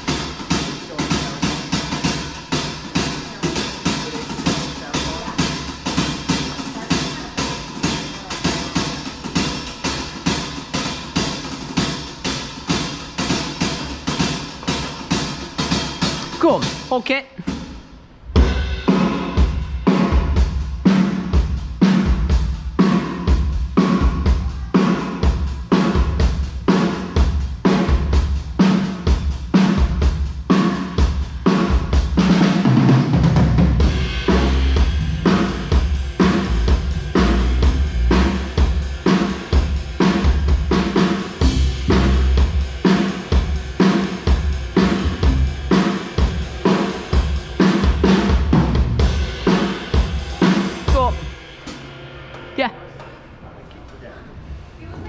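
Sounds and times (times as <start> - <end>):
drum kit playing a beat: 0.0 - 52.7.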